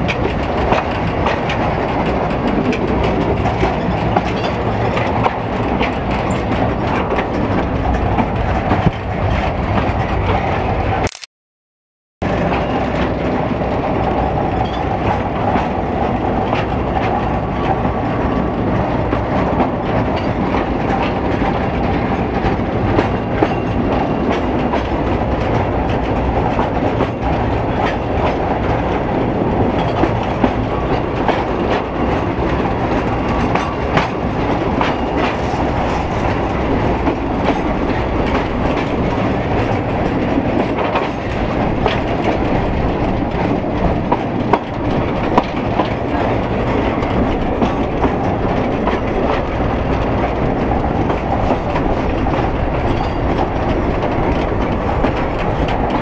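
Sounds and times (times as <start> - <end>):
track clicks and knocks: 0.0 - 10.8, 12.2 - 56.0
train wheels rumbling on rails: 0.0 - 11.1, 12.2 - 56.0.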